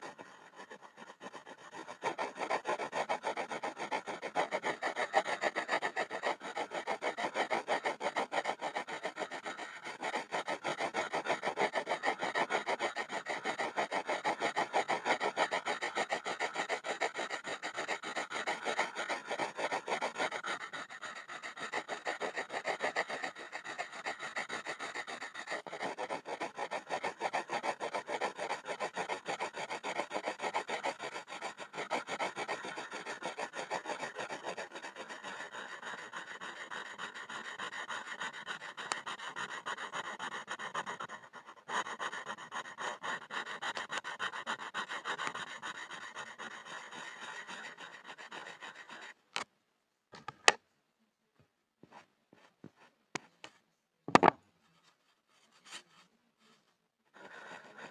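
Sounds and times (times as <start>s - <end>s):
pencil scribbling on board: 0.0s - 49.5s, 51.8s - 57.9s.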